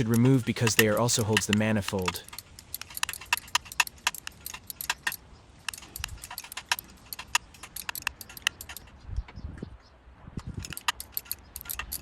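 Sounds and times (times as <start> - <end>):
metal hand tools clinking: 0.0 - 8.9, 10.6 - 12.0.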